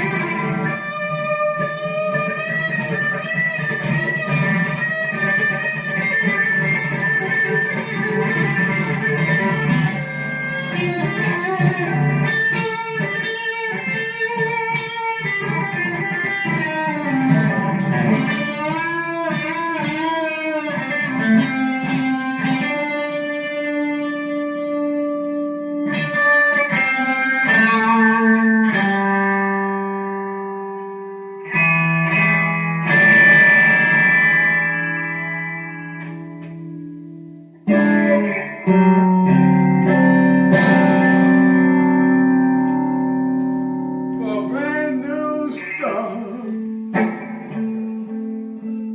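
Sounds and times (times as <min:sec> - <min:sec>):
electric guitar melody: 0:00.0 - 0:48.9.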